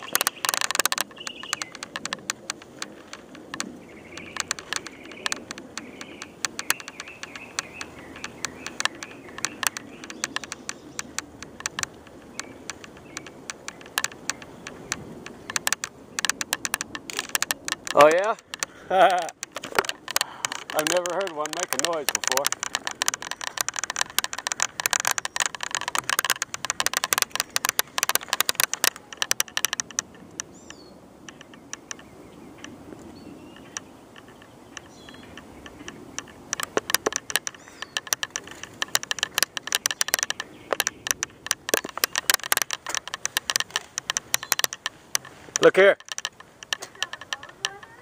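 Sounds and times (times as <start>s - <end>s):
camera handling clicks and rattles: 0.0s - 32.8s, 33.5s - 48.0s.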